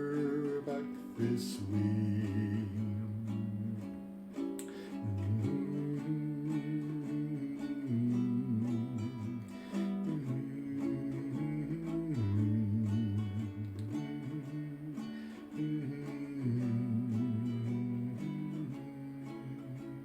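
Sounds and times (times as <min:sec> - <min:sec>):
ukulele strumming chords: 0:00.0 - 0:20.0.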